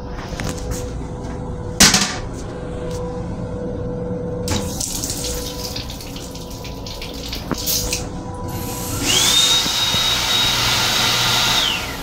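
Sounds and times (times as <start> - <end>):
background hum: 0.0 - 10.6.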